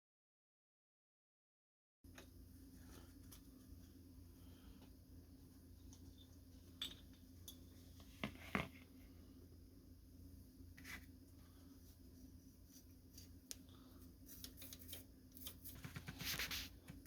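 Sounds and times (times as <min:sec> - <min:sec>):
low steady hum: 0:02.1 - 0:17.0.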